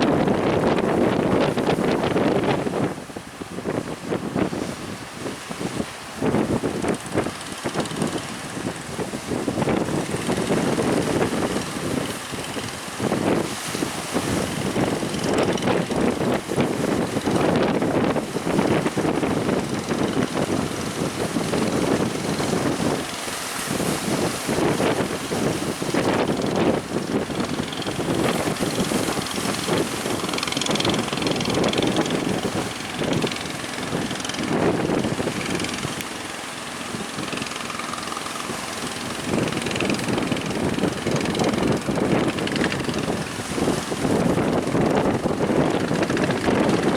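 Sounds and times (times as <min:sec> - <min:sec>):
boat engine running: 0:00.0 - 0:46.9
wind buffeting microphone: 0:00.0 - 0:46.9.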